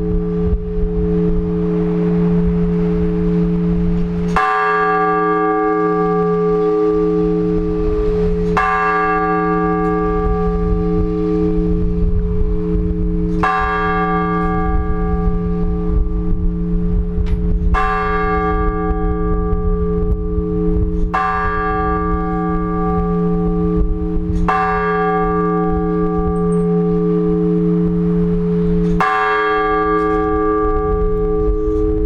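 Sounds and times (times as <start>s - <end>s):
church bell striking: 0.0s - 32.0s
deep bell hum: 0.0s - 32.0s.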